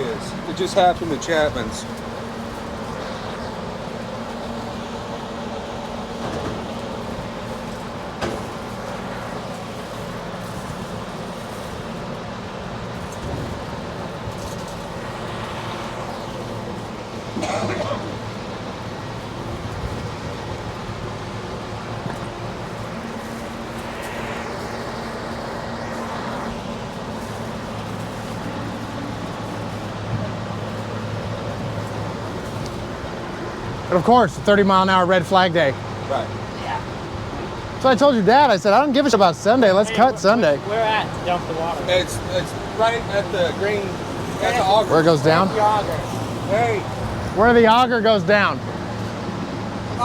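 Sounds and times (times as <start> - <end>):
combine harvester engine running: 0.0 - 50.0.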